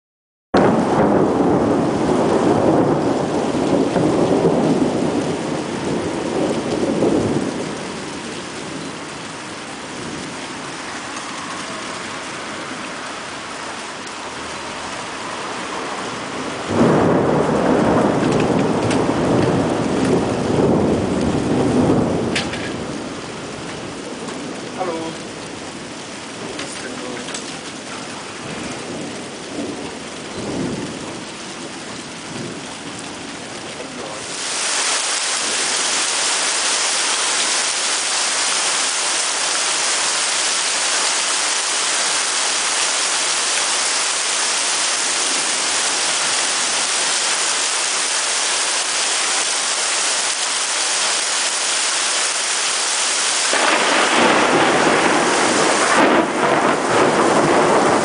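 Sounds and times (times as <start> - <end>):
thunder rumbling: 0.6 - 12.8, 14.3 - 58.0
heavy rain pouring: 0.6 - 58.0.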